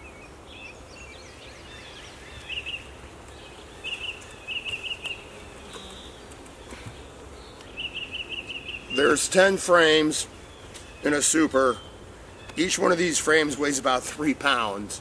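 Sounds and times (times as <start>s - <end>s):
bird chirping: 0.0s - 13.8s
birds warbling: 0.0s - 15.0s.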